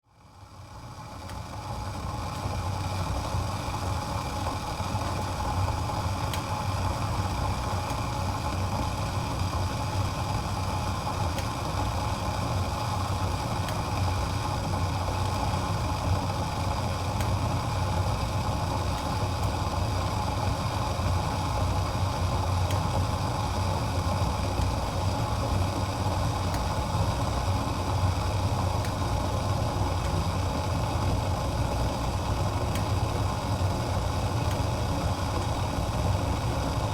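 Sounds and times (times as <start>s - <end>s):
water boiling in a pot: 0.0s - 36.9s.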